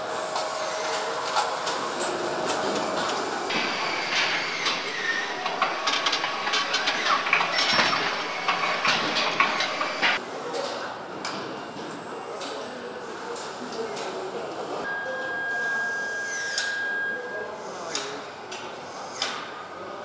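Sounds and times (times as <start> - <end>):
factory mechanical hum: 0.0 - 20.0.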